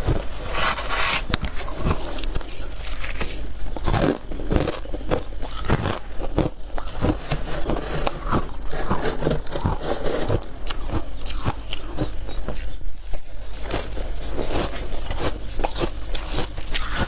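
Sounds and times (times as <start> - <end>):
chewing ice crunching: 0.0 - 17.0.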